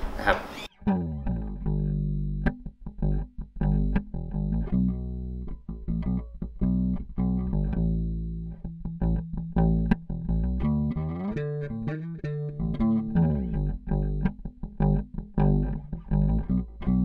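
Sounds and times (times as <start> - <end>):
bass guitar plucked fingerstyle: 0.7 - 17.0.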